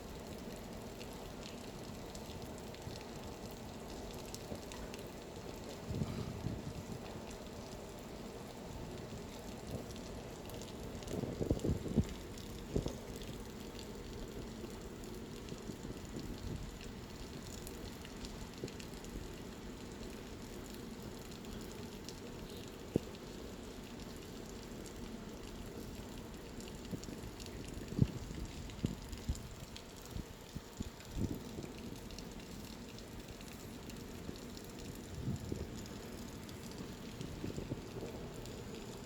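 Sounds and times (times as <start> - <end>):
sharp raindrops ticking: 0.0 - 39.0
heavy rain pouring: 0.2 - 39.0.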